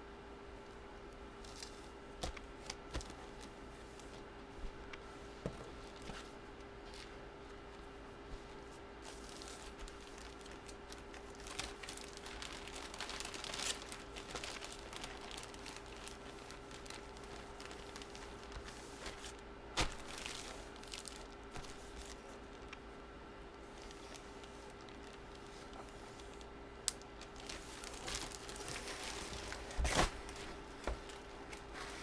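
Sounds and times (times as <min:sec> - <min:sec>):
faint steady hum: 0:00.0 - 0:32.0
packaging crinkling and rustling: 0:01.4 - 0:05.0, 0:05.6 - 0:07.9, 0:09.0 - 0:22.8, 0:23.7 - 0:32.0.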